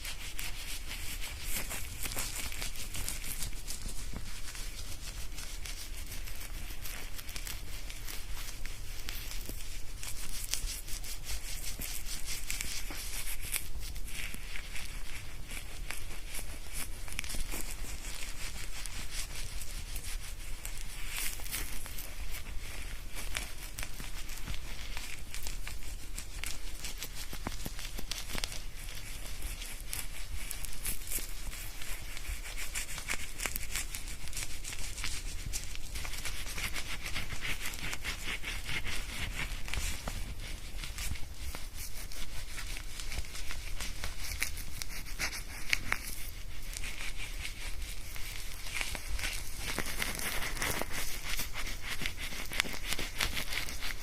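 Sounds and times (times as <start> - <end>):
fingers scrubbing lathered hair: 0.0 - 54.0.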